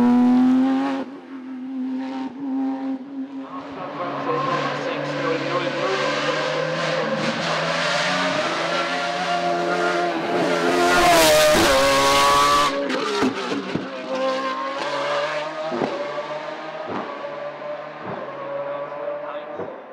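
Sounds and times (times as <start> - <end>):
race car engine at high revs: 0.0 - 19.9.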